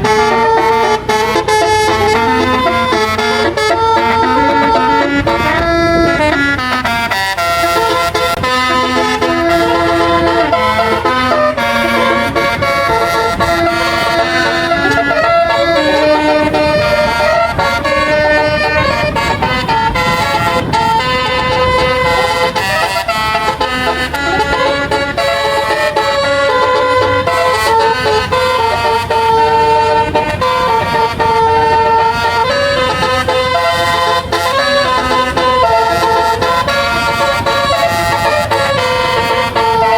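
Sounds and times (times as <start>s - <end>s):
bus horn playing a tune: 0.0s - 39.9s
engine rumble: 0.0s - 39.9s
street noise: 0.0s - 39.9s.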